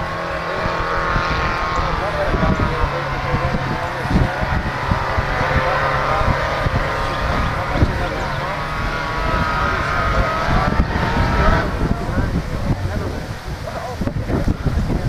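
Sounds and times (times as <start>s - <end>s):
murmur of voices: 0.0s - 15.0s
wind rumbling on microphone: 0.0s - 15.0s.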